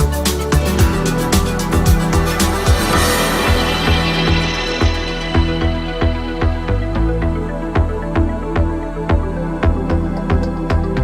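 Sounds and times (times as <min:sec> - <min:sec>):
background music with kick drum: 0:00.0 - 0:11.0.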